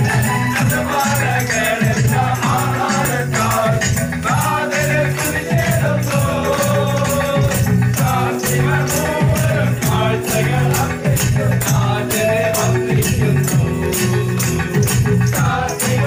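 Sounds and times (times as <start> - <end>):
group singing a christmas carol: 0.0 - 16.0
hands clapping a beat: 0.0 - 16.0
person singing into a microphone: 0.0 - 16.0
tambourine shaken: 0.0 - 16.0.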